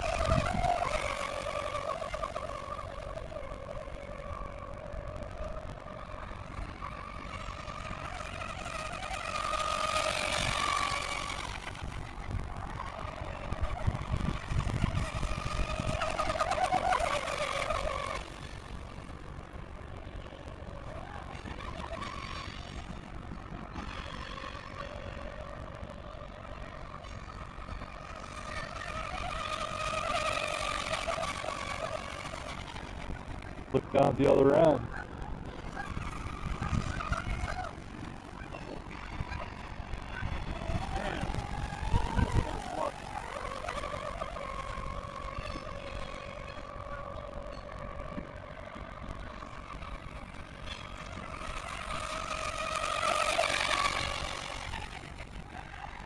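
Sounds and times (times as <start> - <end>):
model boat motor whine: 0.0 - 56.0.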